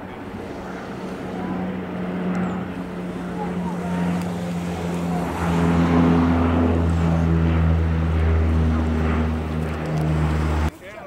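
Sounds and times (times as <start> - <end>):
turboprop aircraft flying low overhead: 0.0 - 10.8.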